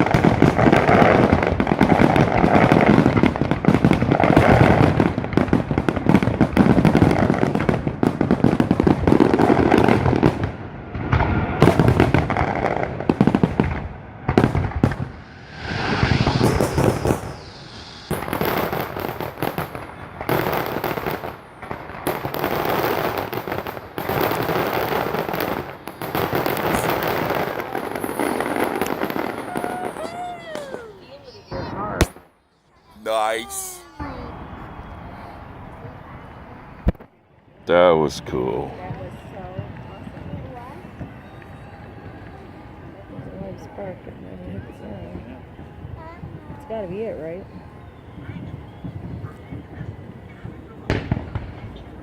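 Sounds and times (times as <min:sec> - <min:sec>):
fireworks crackling and hissing: 0:00.0 - 0:32.3, 0:32.9 - 0:37.1, 0:38.0 - 0:52.0.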